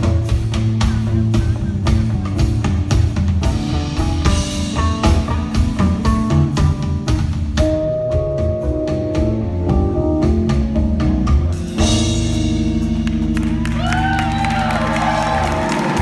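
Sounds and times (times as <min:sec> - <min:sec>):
bass: 0:00.0 - 0:16.0
drum kit: 0:00.0 - 0:16.0
sliding pitched notes: 0:00.0 - 0:16.0.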